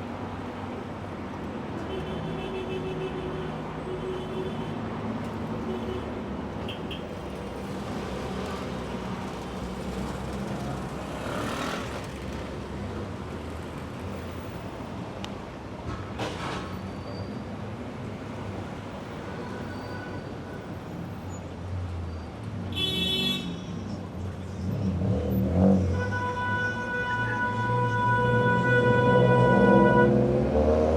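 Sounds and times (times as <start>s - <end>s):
traffic rumble: 0.0s - 30.9s.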